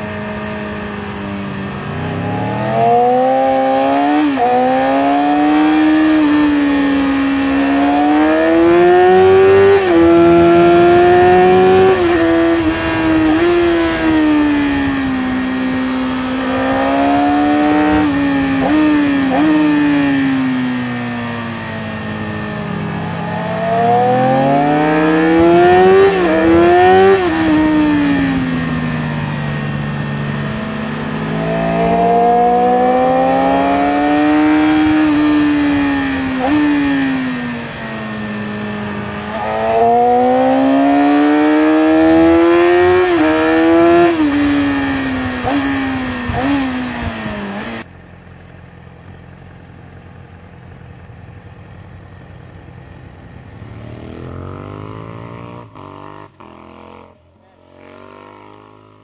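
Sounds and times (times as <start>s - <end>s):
sport-bike engine revving: 0.0s - 47.9s, 53.4s - 58.8s.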